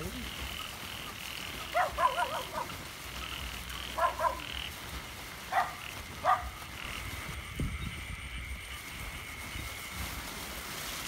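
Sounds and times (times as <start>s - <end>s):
high-pitched frog chorus: 0.0s - 10.0s
frogs croaking: 0.0s - 11.0s.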